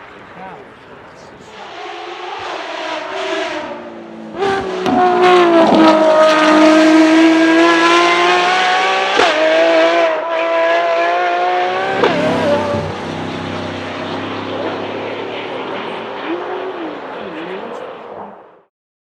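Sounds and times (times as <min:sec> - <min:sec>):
car engine accelerating hard: 0:00.0 - 0:18.4.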